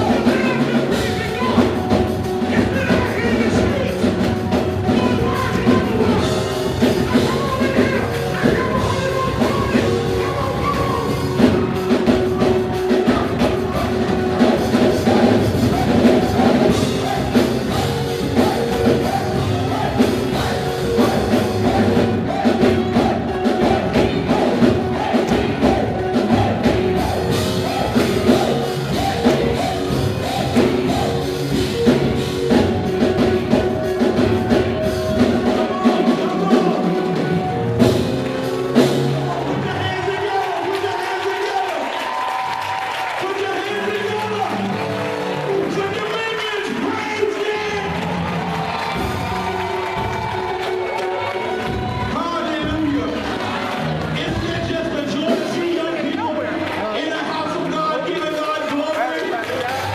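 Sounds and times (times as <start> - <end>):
drum kit: 0.0 - 59.9
rock band music: 0.0 - 59.9.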